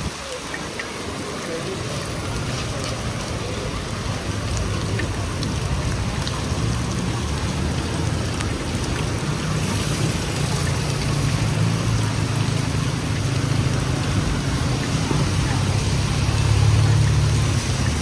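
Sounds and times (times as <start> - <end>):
heavy rain falling: 0.0 - 18.0
low traffic rumble: 0.0 - 18.0
raindrop ticks: 0.1 - 18.0.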